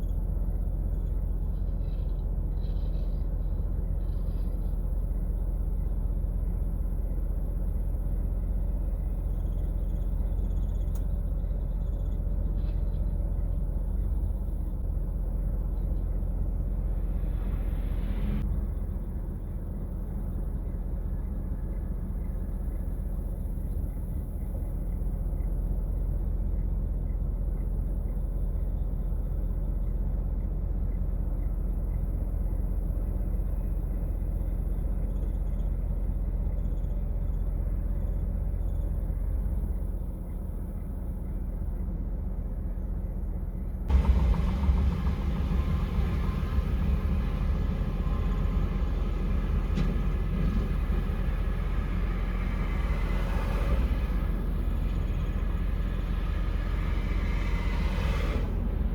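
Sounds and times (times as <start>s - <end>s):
low rumble of vehicles: 0.0s - 58.9s.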